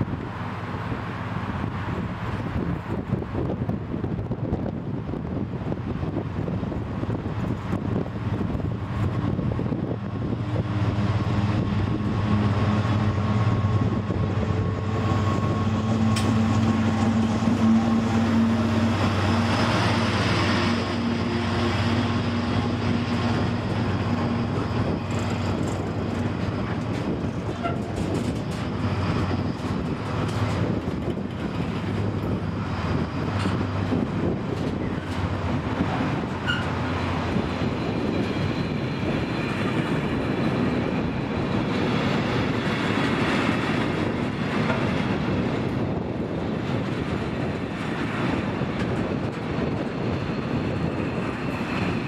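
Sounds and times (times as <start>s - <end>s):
diesel locomotive engine: 0.0s - 52.0s
freight wagons rumbling by: 5.5s - 52.0s.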